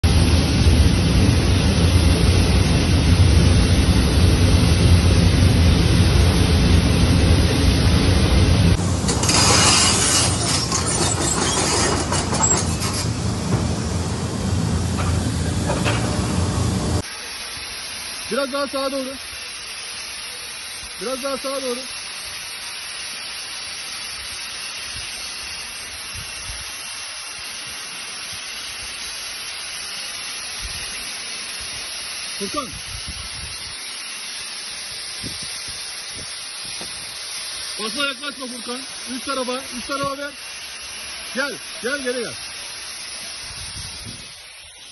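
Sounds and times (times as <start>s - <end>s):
gas rushing under pressure: 0.0s - 44.9s.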